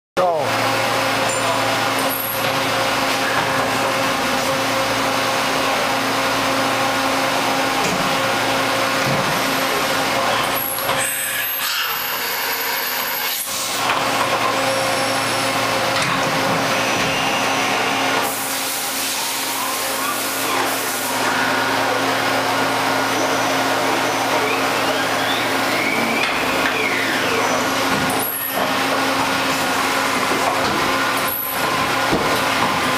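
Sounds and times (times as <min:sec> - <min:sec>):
high machine whine: 0:00.2 - 0:32.9
machine hum with constant tones: 0:00.2 - 0:32.9.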